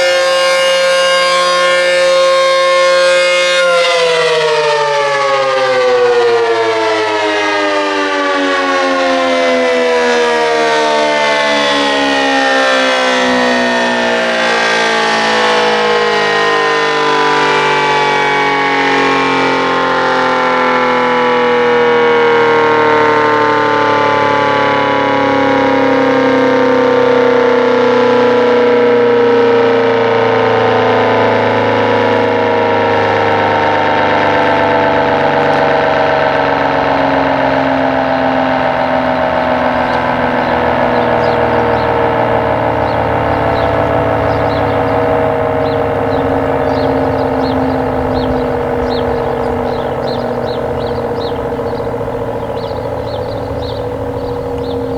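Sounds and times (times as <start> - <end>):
warning siren winding down: 0.0 - 54.9.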